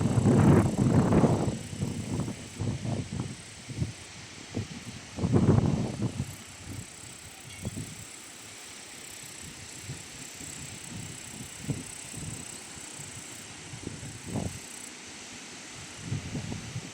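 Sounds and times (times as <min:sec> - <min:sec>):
wind buffeting microphone: 0:00.0 - 0:08.1, 0:09.5 - 0:14.7, 0:16.0 - 0:16.9.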